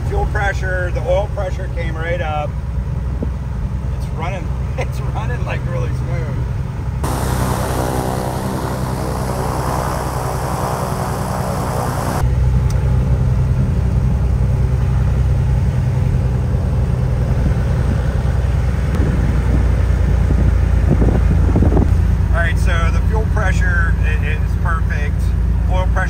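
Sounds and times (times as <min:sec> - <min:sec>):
aircraft engine and propeller idling: 0:00.0 - 0:26.0.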